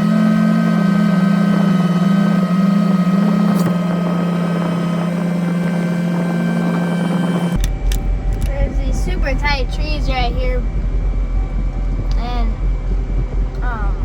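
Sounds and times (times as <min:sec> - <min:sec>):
engine running steadily: 0:00.0 - 0:14.0
steady whine: 0:00.0 - 0:14.0.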